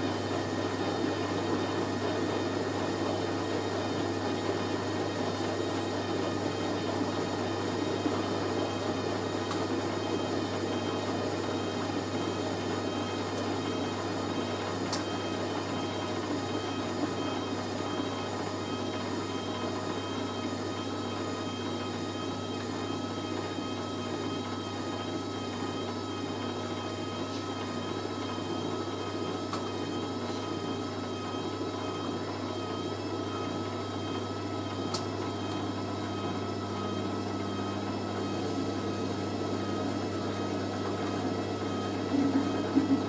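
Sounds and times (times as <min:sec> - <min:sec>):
washing machine spinning: 0:00.0 - 0:43.0.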